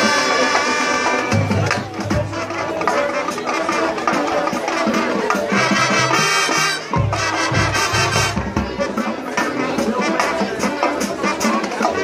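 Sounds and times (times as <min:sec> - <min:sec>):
marching band playing: 0:00.0 - 0:12.0.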